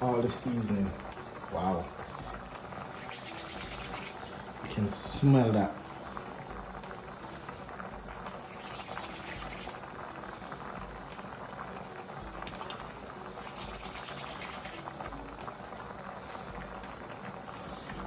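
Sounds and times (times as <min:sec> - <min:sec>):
stew bubbling with pops: 0:00.9 - 0:04.7, 0:05.8 - 0:18.0.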